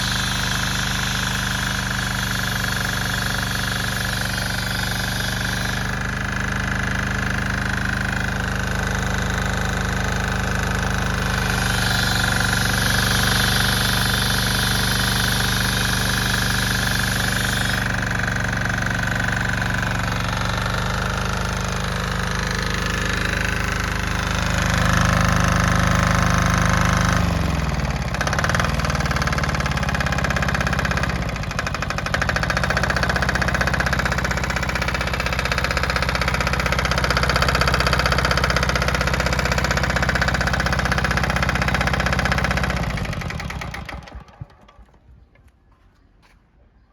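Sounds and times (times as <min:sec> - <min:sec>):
diesel engine running: 0:00.0 - 0:45.2.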